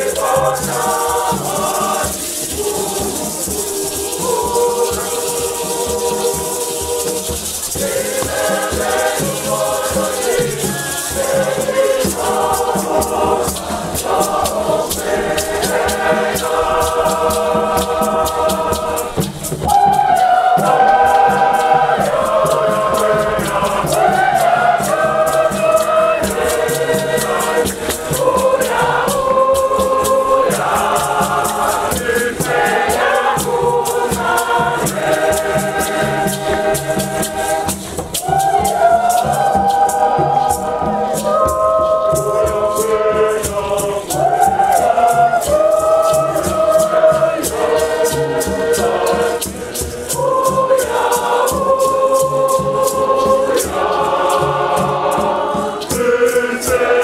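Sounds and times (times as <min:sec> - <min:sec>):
choir singing a hymn: 0:00.0 - 0:57.0
hand clapping: 0:00.0 - 0:57.0
shaken rattles: 0:00.0 - 0:57.0.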